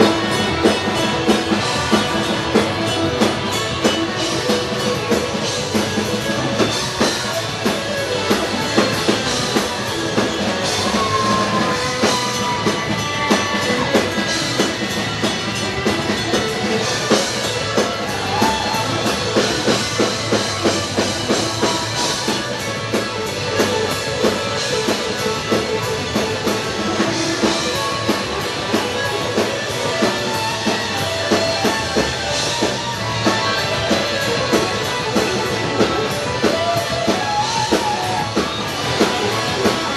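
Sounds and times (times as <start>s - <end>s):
drum kit beat: 0.0s - 39.9s
electric bass: 0.0s - 39.9s
electric guitars: 0.0s - 39.9s.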